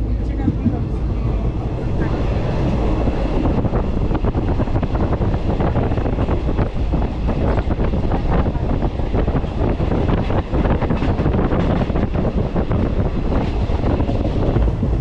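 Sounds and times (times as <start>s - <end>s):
train rumbling and rattling: 0.0s - 15.0s
wind buffeting microphone: 0.0s - 15.0s.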